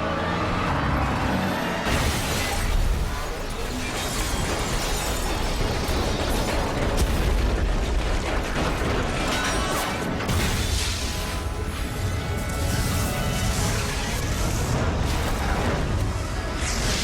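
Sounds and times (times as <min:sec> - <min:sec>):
loud film score music: 0:00.0 - 0:17.0
explosion and crash rumble: 0:01.8 - 0:17.0.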